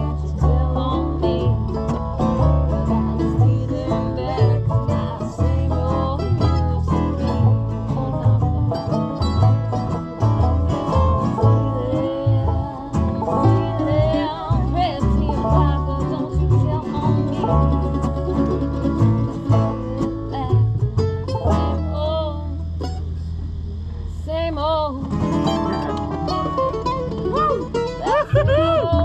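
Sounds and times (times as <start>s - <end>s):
banjo picking: 0.0s - 23.5s, 25.0s - 29.0s
guitar picking: 0.0s - 29.0s
walking bass line: 0.0s - 29.0s.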